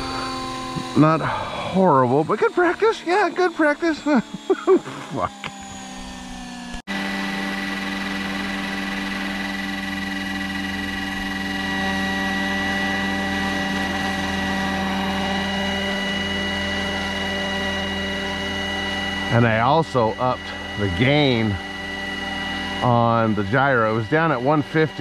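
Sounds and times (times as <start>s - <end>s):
rc helicopter rotor whine: 0.0s - 25.0s.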